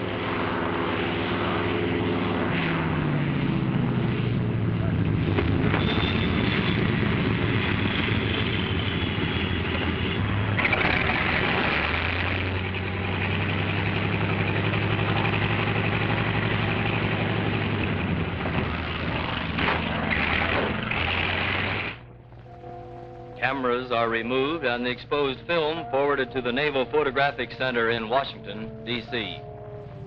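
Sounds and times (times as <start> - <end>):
propeller plane engine running: 0.0 - 30.0.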